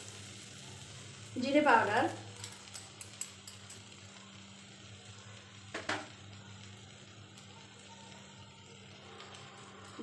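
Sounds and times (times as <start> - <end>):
masala frying in a pan: 0.0 - 10.0.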